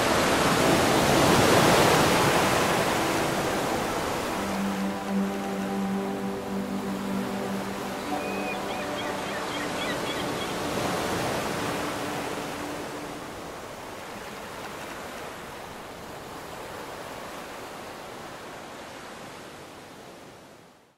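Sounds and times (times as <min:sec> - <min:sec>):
ocean surf breaking: 0:00.0 - 0:17.9.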